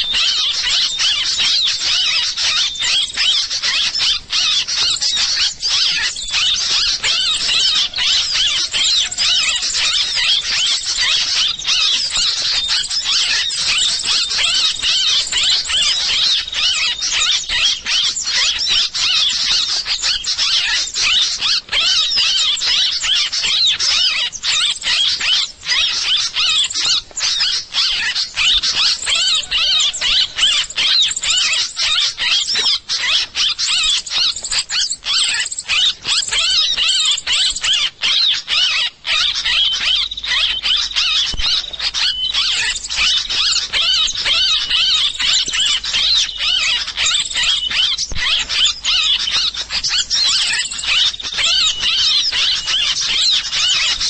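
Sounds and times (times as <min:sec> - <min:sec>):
small birds chirping rapidly: 0:00.0 - 0:54.0.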